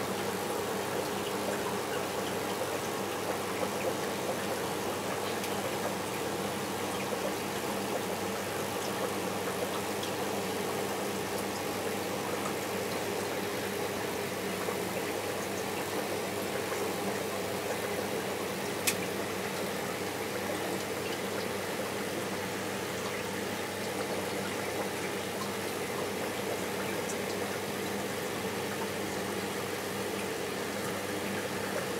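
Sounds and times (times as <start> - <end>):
aquarium pumps humming: 0.0 - 31.9.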